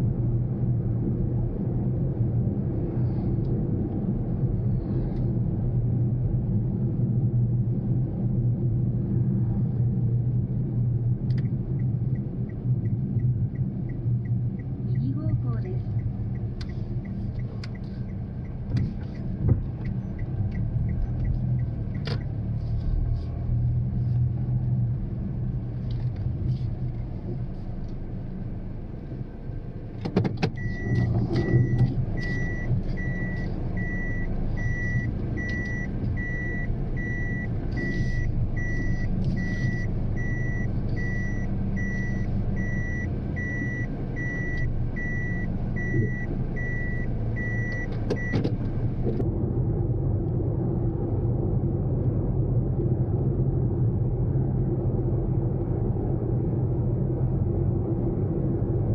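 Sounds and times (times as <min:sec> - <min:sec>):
car engine running: 0:00.0 - 0:58.9.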